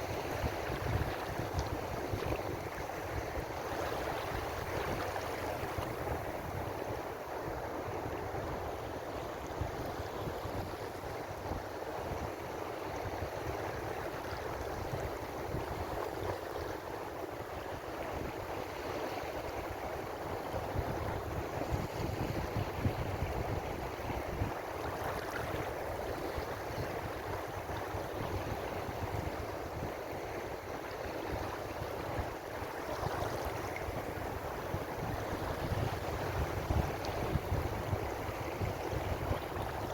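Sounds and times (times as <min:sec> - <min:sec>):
ocean waves surf: 0:00.0 - 0:39.9.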